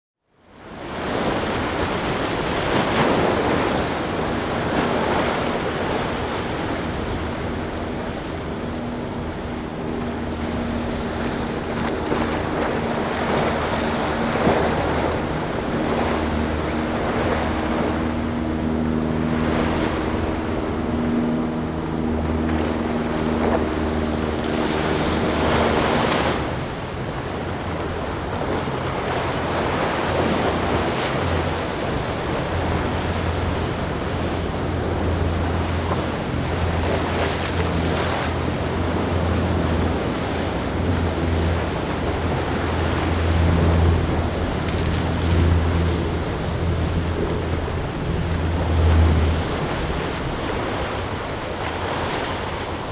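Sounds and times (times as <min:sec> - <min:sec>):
boat engines humming: 0:00.3 - 0:52.9
surf breaking: 0:00.9 - 0:52.9.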